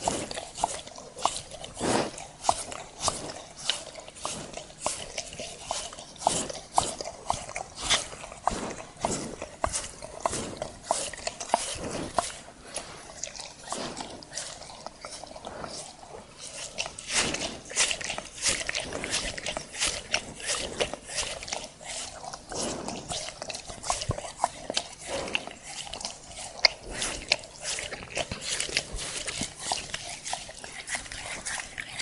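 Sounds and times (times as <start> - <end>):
dog licking a hand: 0.0 - 32.0.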